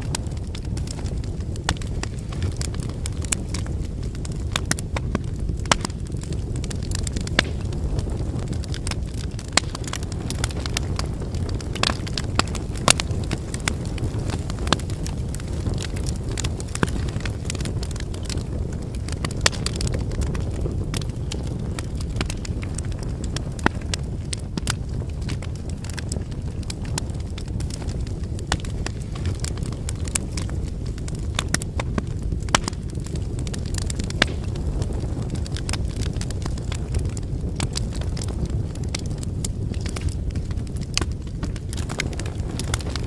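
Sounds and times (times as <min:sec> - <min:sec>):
fire flames rumbling: 0:00.0 - 0:43.0
fire popping: 0:00.0 - 0:43.0
firewood crackling: 0:00.0 - 0:43.0.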